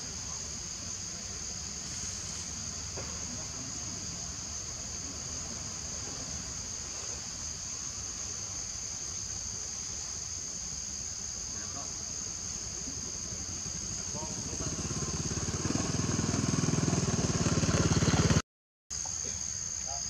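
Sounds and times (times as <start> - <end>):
high-pitched insect chorus: 0.0 - 18.2, 18.9 - 20.0.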